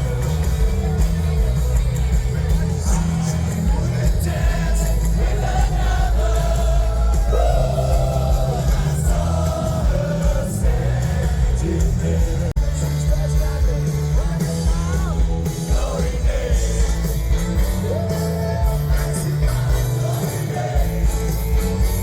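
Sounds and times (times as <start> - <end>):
rock music with singer: 0.0 - 22.0.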